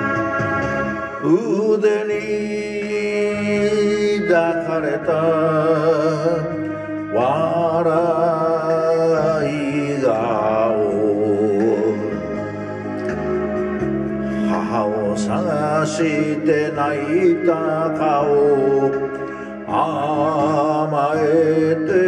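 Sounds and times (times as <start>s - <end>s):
recorded musical accompaniment: 0.0s - 22.0s
man singing with vibrato: 1.2s - 22.0s.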